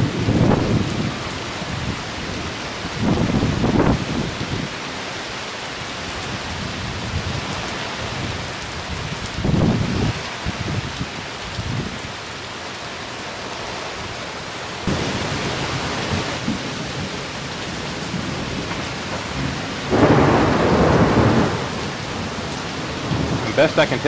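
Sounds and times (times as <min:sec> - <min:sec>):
rain on a tarp: 0:00.0 - 0:24.0.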